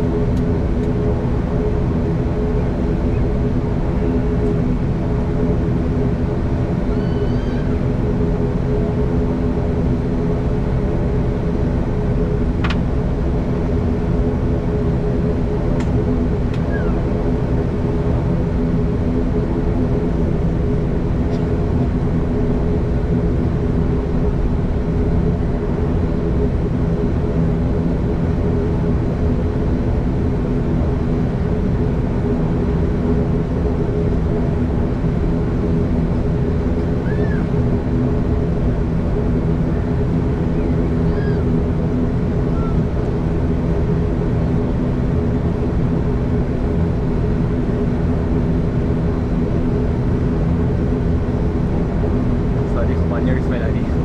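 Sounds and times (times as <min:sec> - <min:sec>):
turboprop engines droning in cabin: 0:00.0 - 0:54.0.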